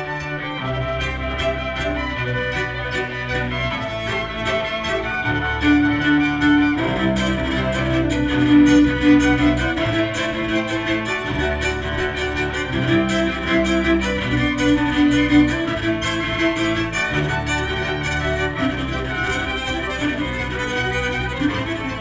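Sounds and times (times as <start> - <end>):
low cello notes: 0.0 - 22.0
string quintet playing dance music: 0.0 - 22.0.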